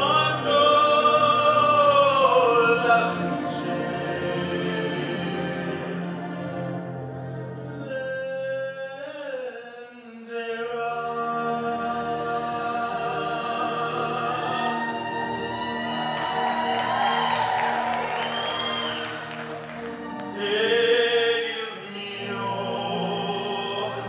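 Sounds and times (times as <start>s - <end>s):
music with sustained chords: 0.0s - 8.3s, 11.6s - 24.0s.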